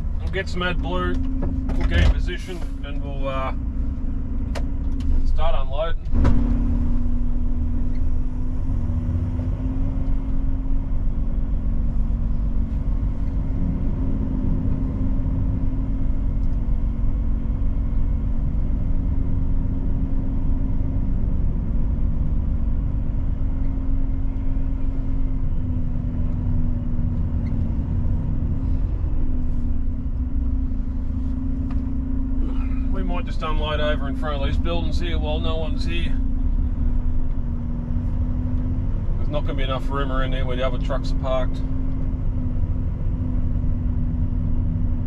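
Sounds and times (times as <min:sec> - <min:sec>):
truck diesel engine rumbling: 0:00.0 - 0:45.0.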